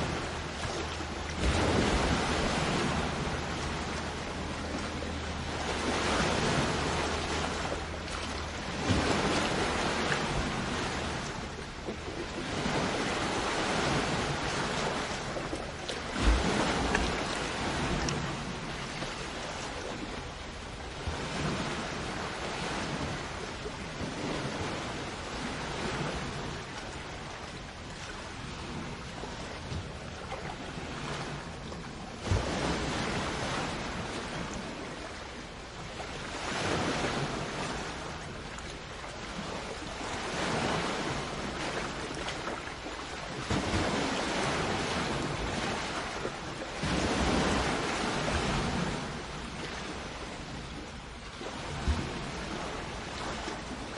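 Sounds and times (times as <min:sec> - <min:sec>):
wave breaking: 0:00.0 - 0:50.7
sea waves washing onto shore: 0:00.0 - 0:53.9
wind noise on microphone: 0:00.0 - 0:53.9.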